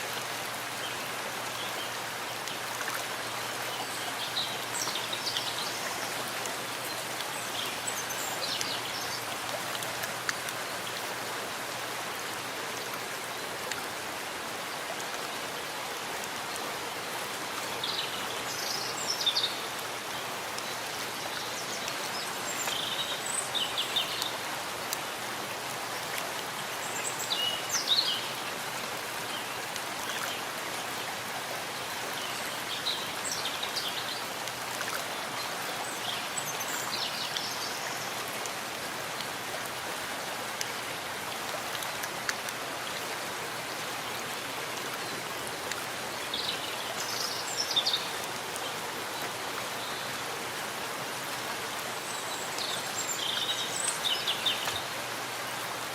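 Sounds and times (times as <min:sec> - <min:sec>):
rain on leaves: 0:00.0 - 0:55.9.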